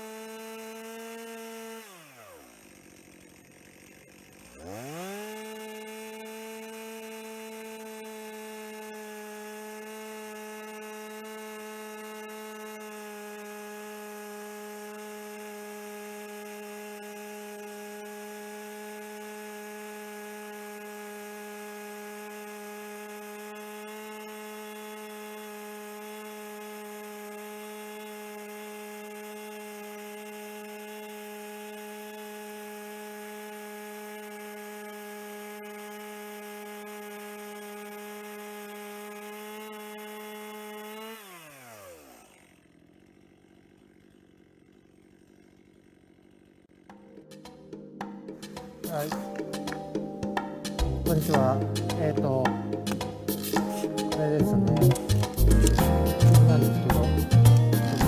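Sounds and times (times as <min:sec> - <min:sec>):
small motor humming: 0:00.0 - 0:58.0.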